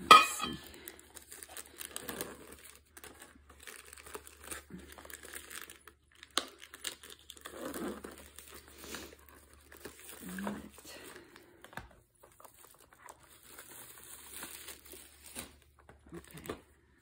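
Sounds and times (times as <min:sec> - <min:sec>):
plastic film crinkling and tearing: 0:00.6 - 0:17.0.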